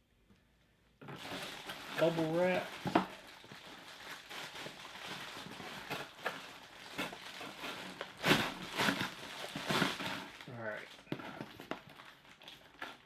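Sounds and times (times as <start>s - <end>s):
bubble wrap crinkling: 1.0s - 13.0s.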